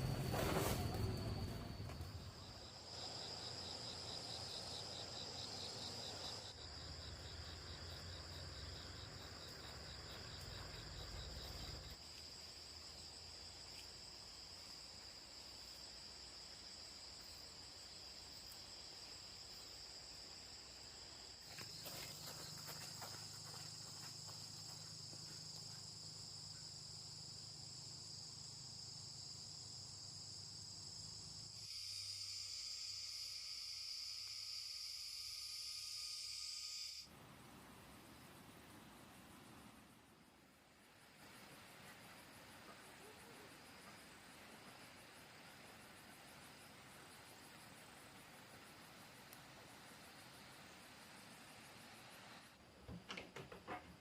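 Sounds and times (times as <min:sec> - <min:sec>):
high-pitched insect chorus: 0:00.0 - 0:52.6.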